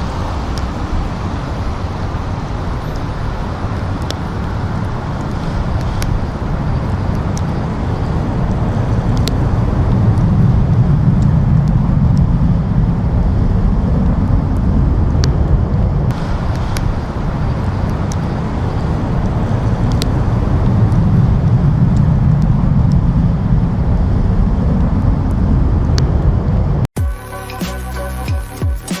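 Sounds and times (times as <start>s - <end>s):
jet engines roaring: 0.0s - 27.5s.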